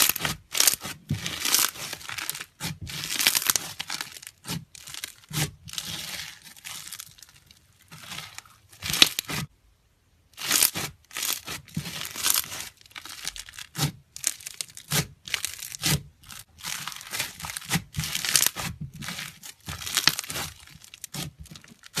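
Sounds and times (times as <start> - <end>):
foam bead slime crackling: 0.0 - 9.5, 10.3 - 22.0.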